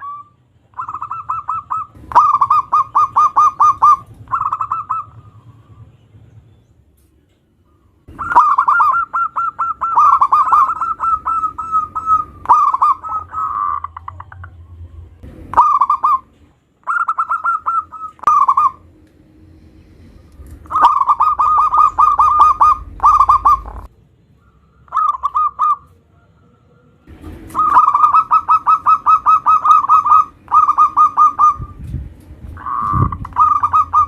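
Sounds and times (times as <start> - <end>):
dove cooing: 0.0 - 5.8, 8.0 - 18.9, 20.4 - 23.9, 24.5 - 31.8, 32.6 - 34.0.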